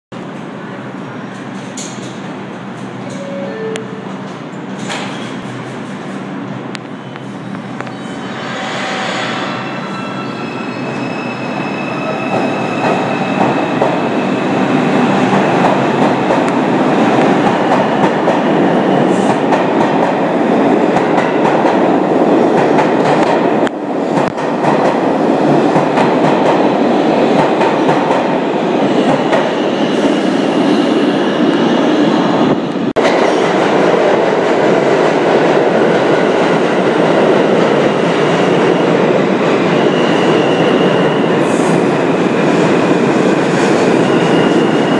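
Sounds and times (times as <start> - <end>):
train wheels rumbling on rail: 0.2 - 44.9.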